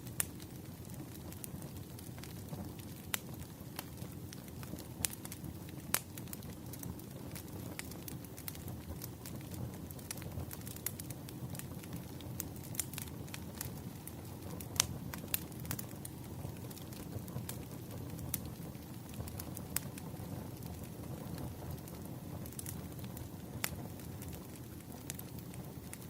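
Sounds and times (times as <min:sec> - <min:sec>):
burning wood crackling and popping: 0:00.0 - 0:26.0
flames rumbling: 0:00.0 - 0:26.0.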